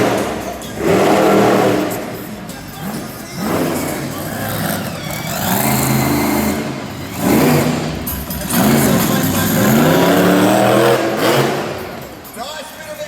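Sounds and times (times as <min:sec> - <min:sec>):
monster truck engine revving: 0:00.0 - 0:12.5.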